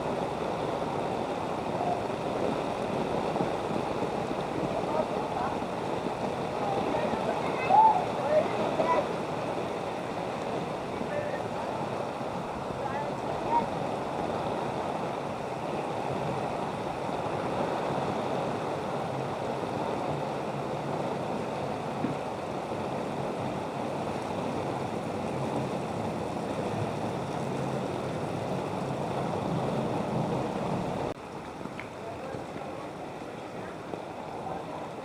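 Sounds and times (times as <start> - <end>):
floodwater rushing and splashing: 0.0 - 35.0.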